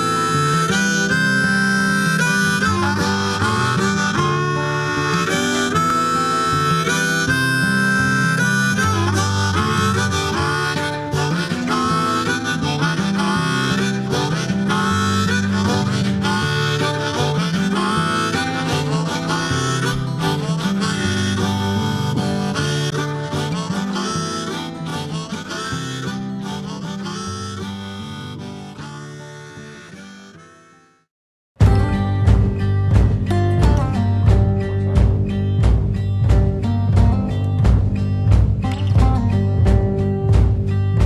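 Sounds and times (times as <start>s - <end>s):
blues harmonica solo: 0.0s - 35.3s
guitar: 0.0s - 41.0s.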